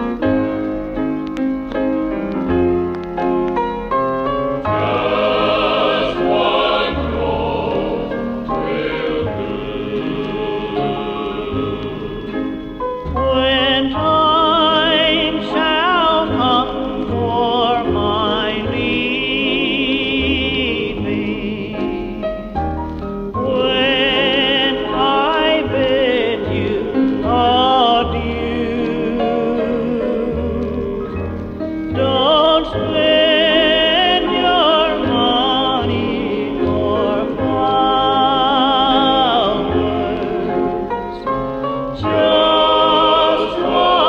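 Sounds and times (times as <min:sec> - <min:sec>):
choir singing: 0:04.6 - 0:22.1, 0:23.4 - 0:44.0
lead singer with vibrato: 0:04.7 - 0:22.2, 0:23.4 - 0:40.9, 0:42.0 - 0:44.0.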